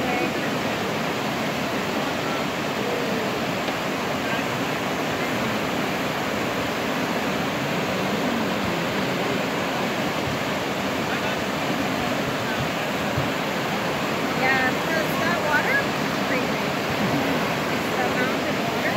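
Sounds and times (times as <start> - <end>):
river rapids rushing: 0.0 - 18.9.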